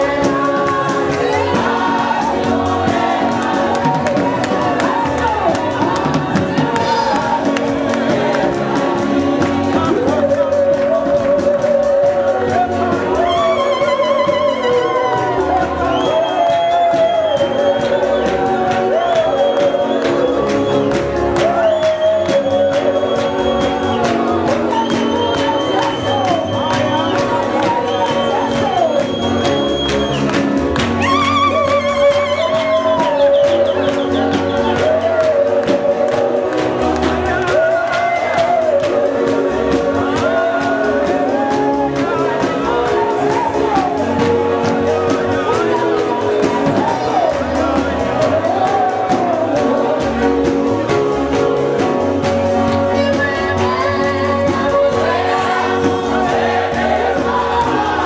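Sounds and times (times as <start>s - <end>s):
gospel song sung by several vocalists: 0.0s - 58.0s
instrumental backing with steady beat: 0.0s - 58.0s.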